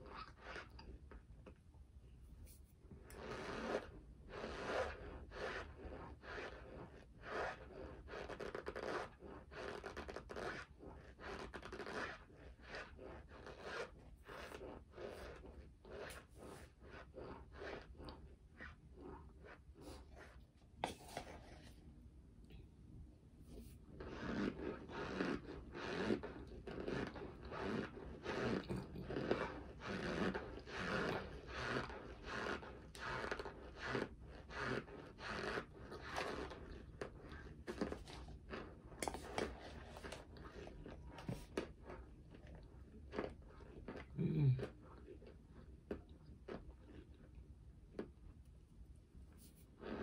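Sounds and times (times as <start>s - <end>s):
chewing dry cornstarch: 0.0s - 1.7s, 2.4s - 21.7s, 23.6s - 48.5s.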